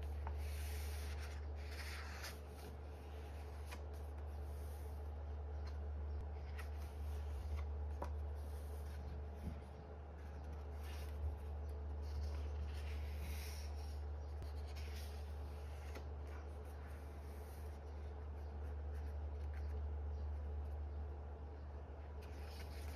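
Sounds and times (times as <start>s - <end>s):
book pages rustling: 0.0s - 20.4s, 22.2s - 22.9s
steady low hum: 0.0s - 22.9s.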